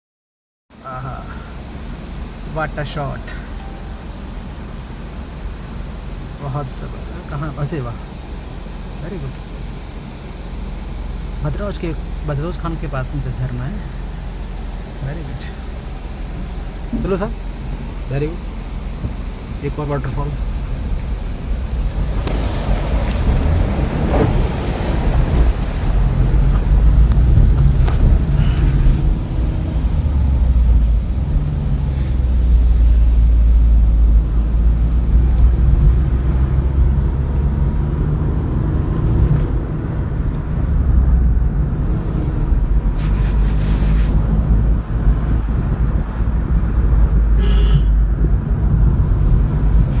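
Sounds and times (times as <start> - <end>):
road and wind noise: 0.7 - 50.0.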